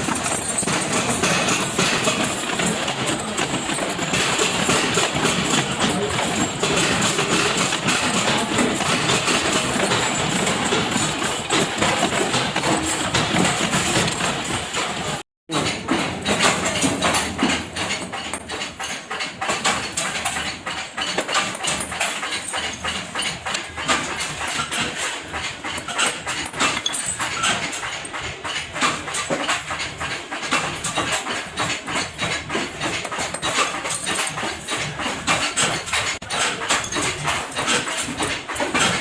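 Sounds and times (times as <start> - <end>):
factory machinery clattering: 0.0 - 39.0
sharp ticks and knocks: 0.0 - 39.0.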